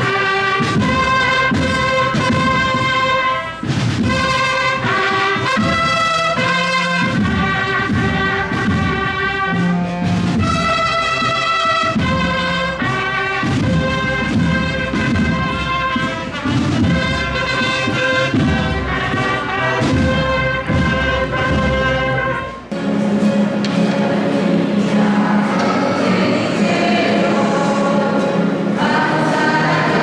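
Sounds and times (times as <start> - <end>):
brass band playing: 0.0 - 30.0.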